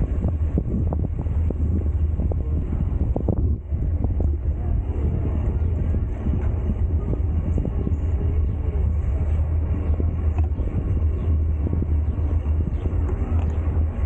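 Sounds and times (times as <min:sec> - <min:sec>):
bicycle tyre noise: 0:00.0 - 0:14.0
wind on microphone: 0:00.0 - 0:14.0.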